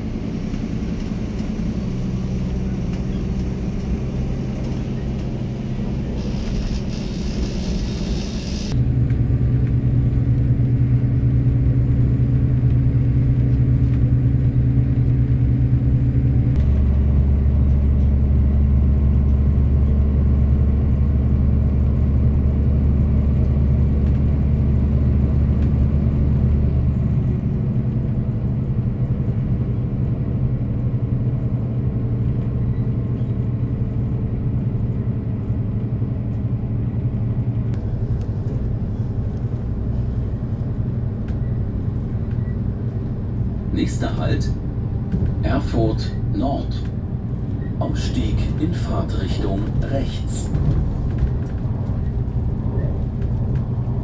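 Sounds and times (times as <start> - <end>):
diesel train engine drone: 0.0 - 54.0
train rolling noise: 0.0 - 54.0.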